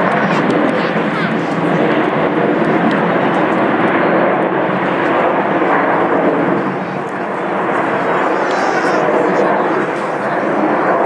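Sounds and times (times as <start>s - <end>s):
jets flying overhead: 0.0s - 11.0s.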